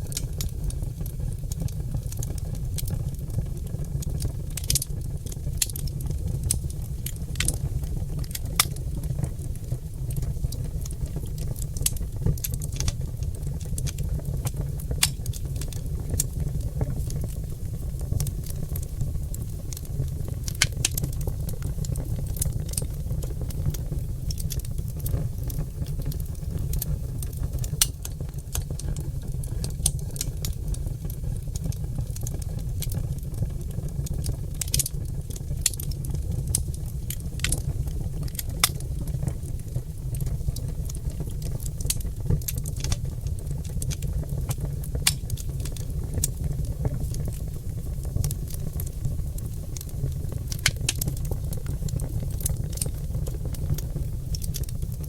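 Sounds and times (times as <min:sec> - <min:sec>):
log fire crackling and popping: 0:00.0 - 0:55.0
low fire rumble: 0:00.0 - 0:55.0.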